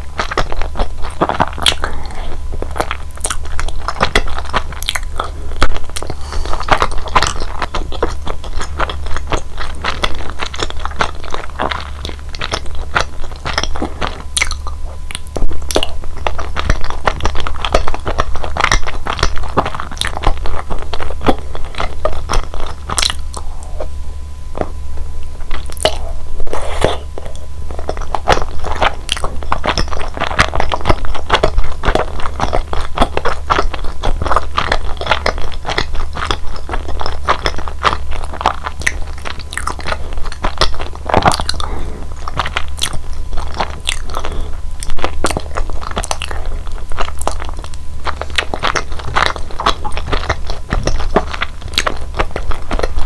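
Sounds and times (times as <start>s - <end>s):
chewing with wet mouth clicks: 0.0s - 23.9s, 24.5s - 53.0s.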